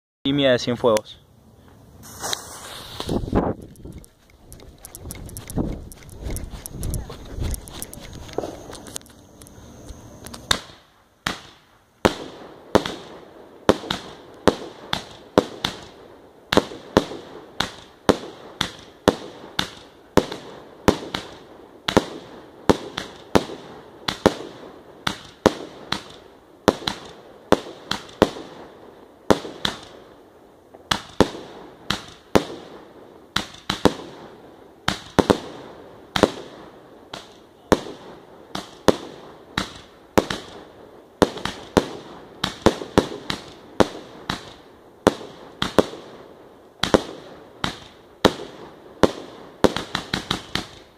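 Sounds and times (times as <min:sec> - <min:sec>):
fireworks cake sharp bangs: 0:02.0 - 0:04.0, 0:10.3 - 0:30.2, 0:30.8 - 0:50.9.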